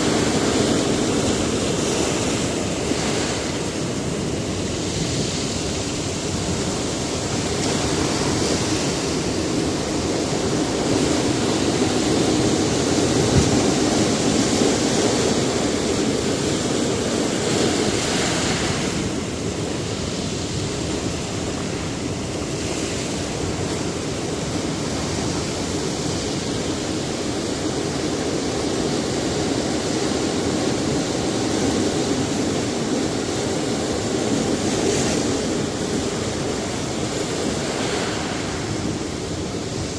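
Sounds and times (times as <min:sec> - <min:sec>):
surf washing against rocks: 0:00.0 - 0:39.9.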